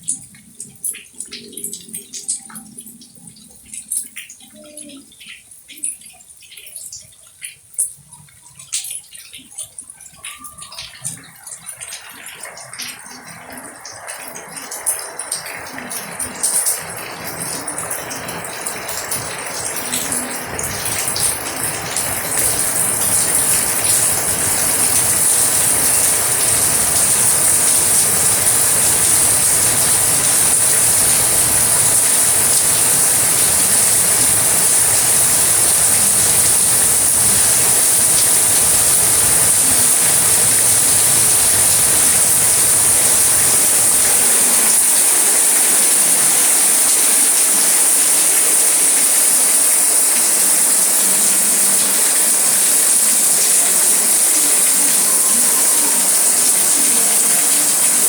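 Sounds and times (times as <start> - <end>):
steady rain hiss: 0.0 - 7.0, 10.2 - 58.0.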